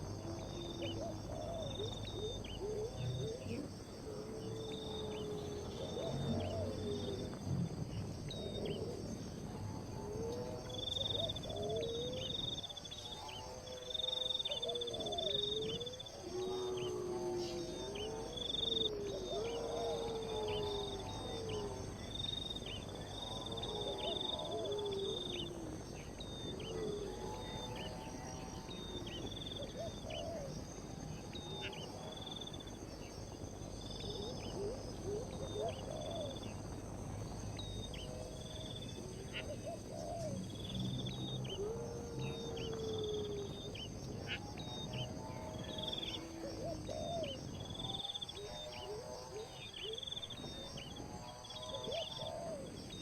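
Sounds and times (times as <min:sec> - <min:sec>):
high insect drone: 0:00.0 - 0:53.0.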